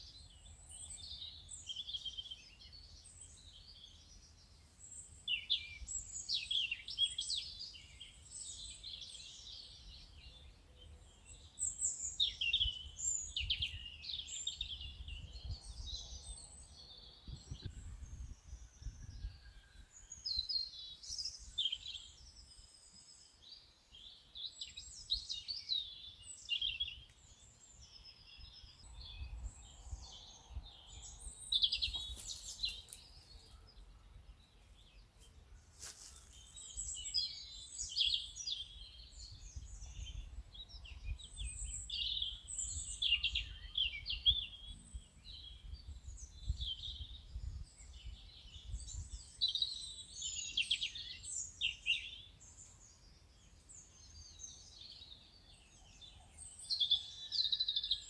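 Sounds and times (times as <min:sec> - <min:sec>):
birds chirping and singing: 0:00.0 - 0:35.2, 0:35.8 - 0:58.0.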